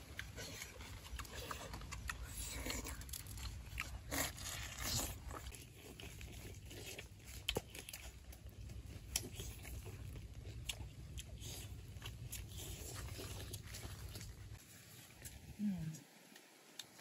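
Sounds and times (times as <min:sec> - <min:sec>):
low steady rumble: 0:00.0 - 0:16.0
chewing: 0:00.0 - 0:17.0.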